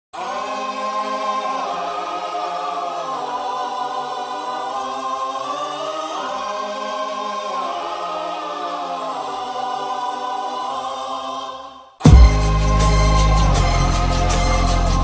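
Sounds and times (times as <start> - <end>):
choir singing sustained chords: 0.2 - 15.0.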